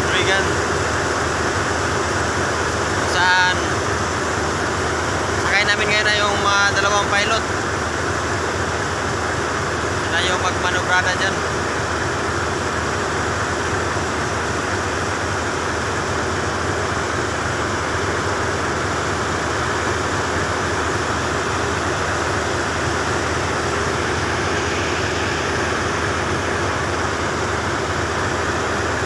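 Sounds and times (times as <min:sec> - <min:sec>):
boat engine running: 0:00.0 - 0:29.0.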